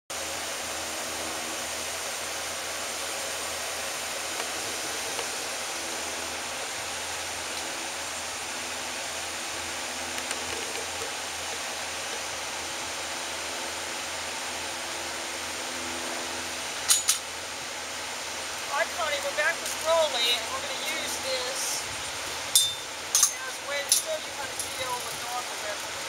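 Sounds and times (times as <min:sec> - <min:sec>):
steady background hiss: 0:00.2 - 0:26.0.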